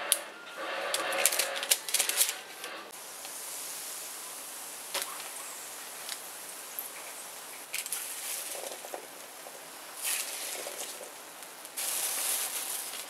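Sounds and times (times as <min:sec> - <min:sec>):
steady hiss: 0:01.7 - 0:13.0.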